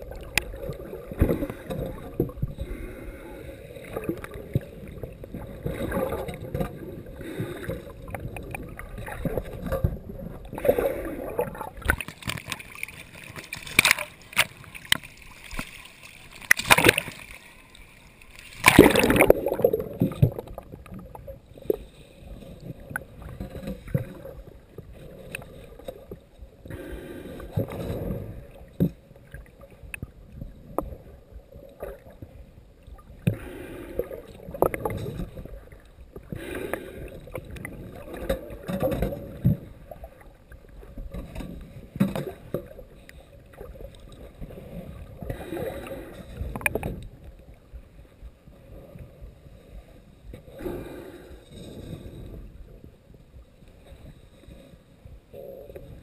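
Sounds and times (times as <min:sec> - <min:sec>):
muffled underwater water surging: 0:00.0 - 0:56.0.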